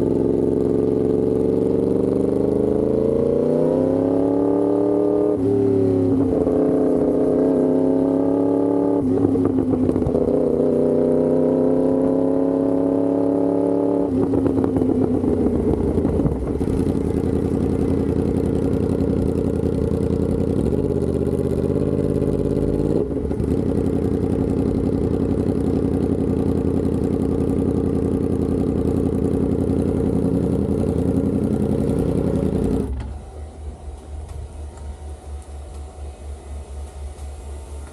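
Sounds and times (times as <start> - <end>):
motorcycle engine revving: 0.0 - 37.3.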